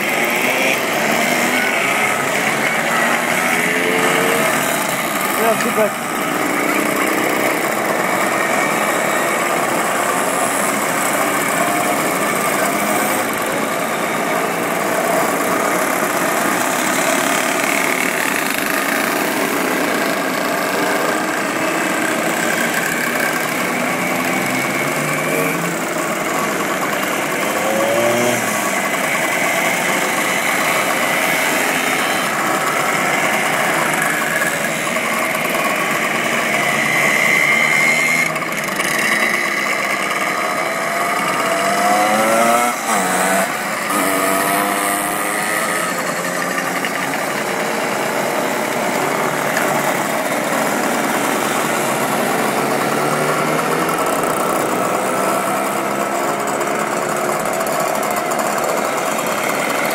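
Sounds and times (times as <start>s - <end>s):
motorcycle engines revving: 0.0s - 59.9s
small motorcycle engines passing: 0.0s - 59.9s.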